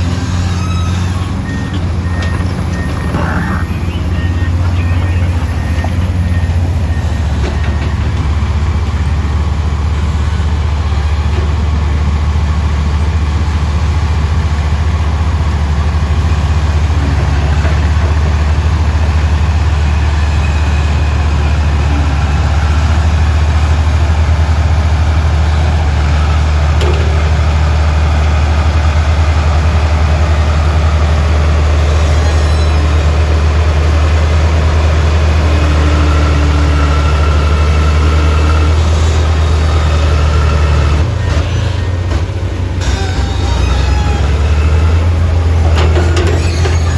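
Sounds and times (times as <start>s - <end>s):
excavator diesel engine drone: 0.0s - 46.9s.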